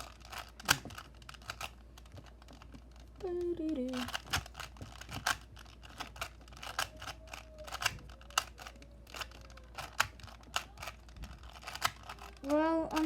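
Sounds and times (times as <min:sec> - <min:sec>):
puzzle cube layers clicking: 0:00.0 - 0:13.0.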